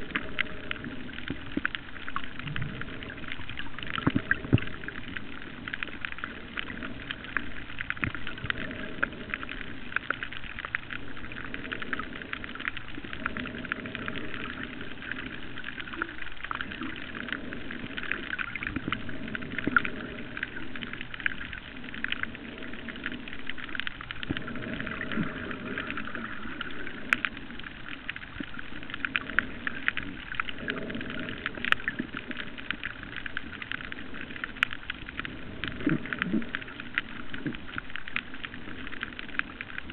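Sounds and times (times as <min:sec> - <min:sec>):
crackle of fine ticks underwater: 0:00.0 - 0:39.9
underwater rush of water: 0:00.0 - 0:39.9.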